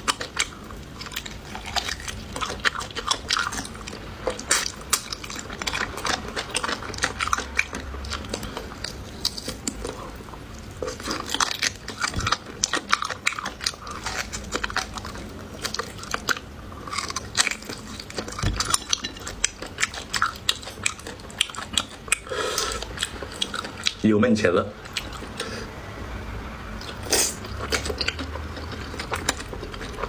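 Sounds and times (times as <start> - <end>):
person chewing crunchy food: 0.0 - 24.0, 24.8 - 25.6, 26.8 - 30.0.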